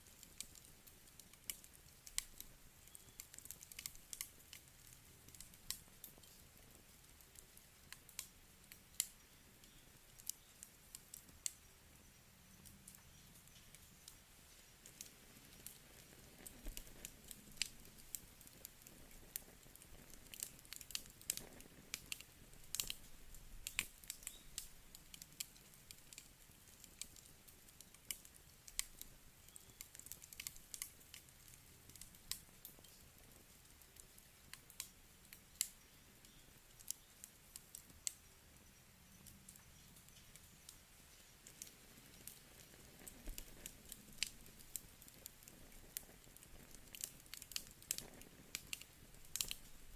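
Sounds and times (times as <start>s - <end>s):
campfire crackling and popping: 0.0s - 49.9s
low hiss of flames: 0.0s - 49.9s.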